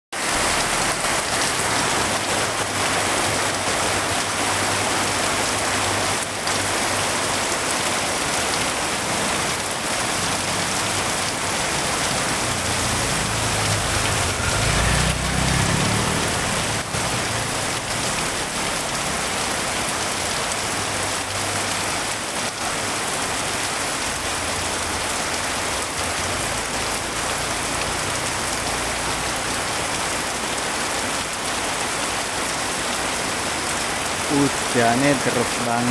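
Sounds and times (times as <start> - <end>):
heavy rain falling: 0.1 - 35.9.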